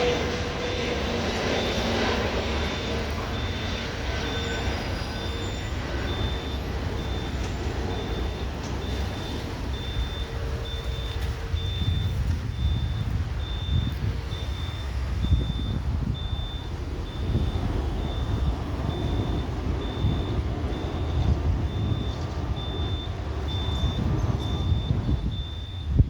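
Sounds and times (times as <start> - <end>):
low engine rumble: 0.0 - 26.0
reversing alarm beeping: 0.0 - 26.0.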